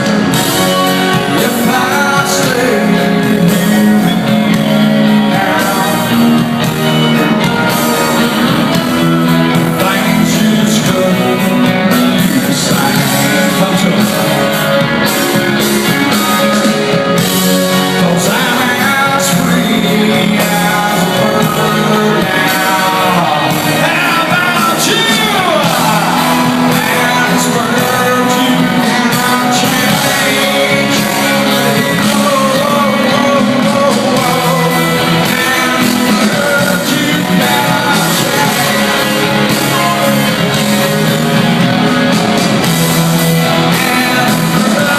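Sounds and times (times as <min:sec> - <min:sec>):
bending lead guitar notes: 0:00.0 - 0:44.9
rock band playing: 0:00.0 - 0:44.9.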